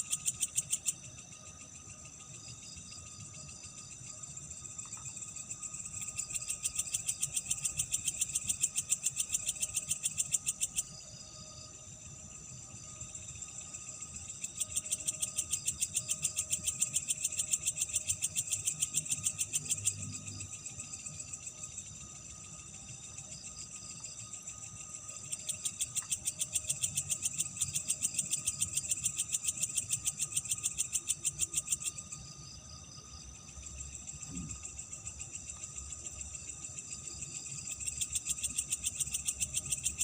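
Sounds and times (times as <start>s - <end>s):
fast pulsing insect trill: 0.0s - 40.0s
high insect drone: 0.0s - 40.0s.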